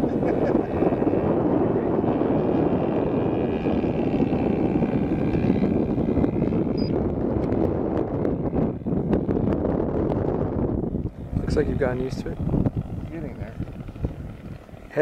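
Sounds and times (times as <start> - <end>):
model aircraft engine in flight: 0.0 - 15.0
wind on microphone: 0.0 - 15.0.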